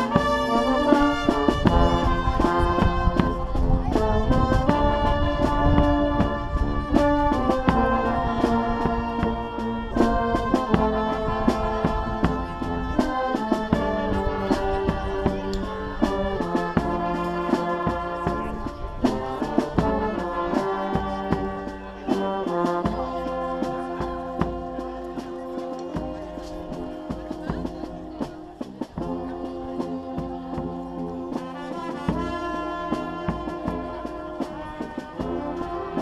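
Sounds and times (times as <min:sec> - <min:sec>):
brass band playing: 0:00.0 - 0:36.0
bass drum beating: 0:00.1 - 0:31.4.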